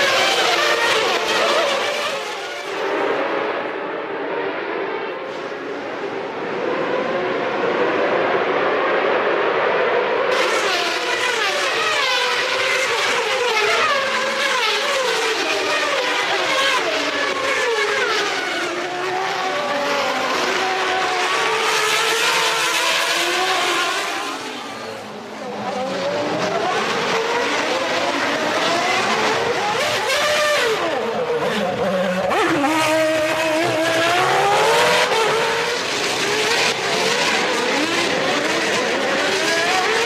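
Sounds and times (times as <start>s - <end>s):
racing cars passing at high revs: 0.0s - 40.0s.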